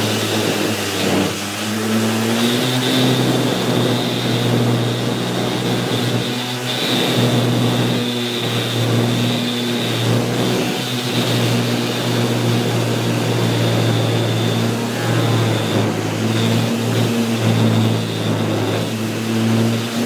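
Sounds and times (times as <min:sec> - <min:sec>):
orbital sander sanding wood: 0:00.0 - 0:20.0.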